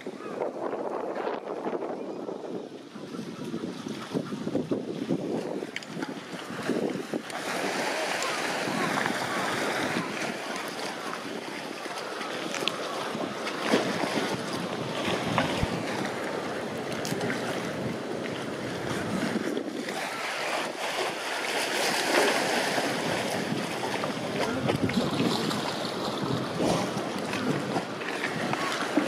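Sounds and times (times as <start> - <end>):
water sloshing and splashing: 2.8 - 29.0
waves washing against walls: 3.3 - 29.0.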